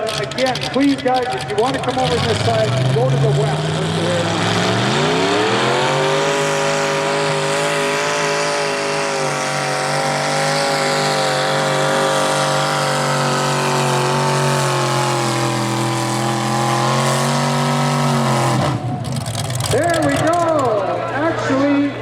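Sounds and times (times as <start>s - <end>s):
pulling tractor engine screaming: 0.0s - 22.0s.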